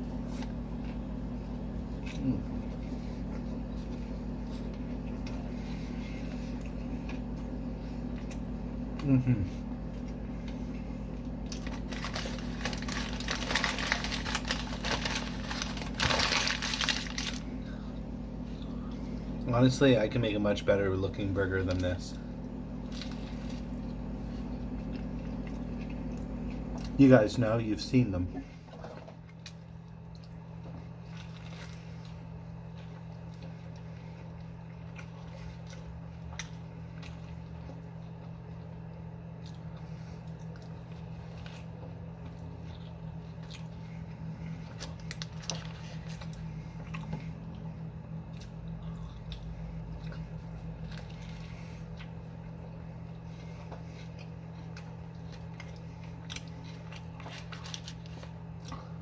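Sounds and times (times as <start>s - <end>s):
person chewing food: 0.0s - 19.6s, 21.6s - 27.2s, 28.6s - 59.0s
steady low hum: 0.0s - 59.0s.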